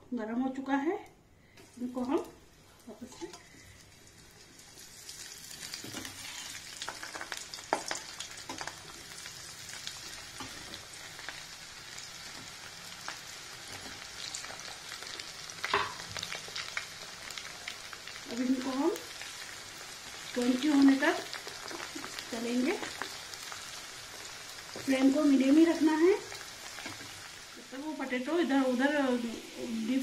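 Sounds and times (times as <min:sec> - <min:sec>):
food sizzling in hot oil: 0:01.7 - 0:30.0.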